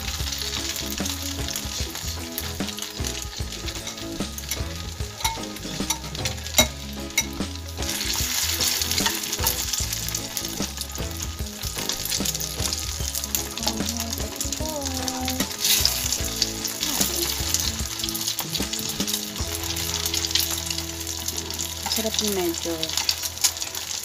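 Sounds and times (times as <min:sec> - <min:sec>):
rice cake frying in oil: 0:00.0 - 0:24.0.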